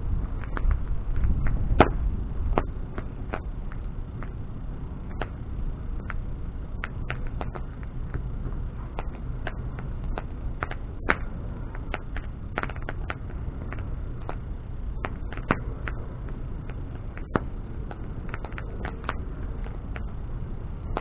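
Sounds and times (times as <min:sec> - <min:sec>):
fire crackles and pops: 0:00.0 - 0:21.0
low rush of flame: 0:00.0 - 0:21.0.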